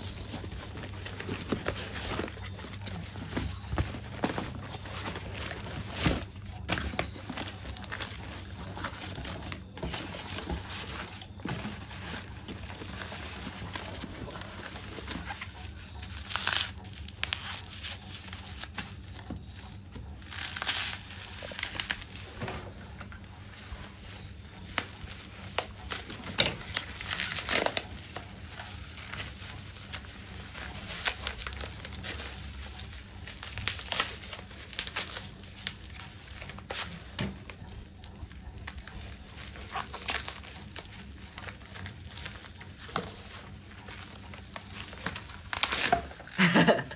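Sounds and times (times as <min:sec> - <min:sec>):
packaging crinkling and tearing: 0:00.0 - 0:46.9.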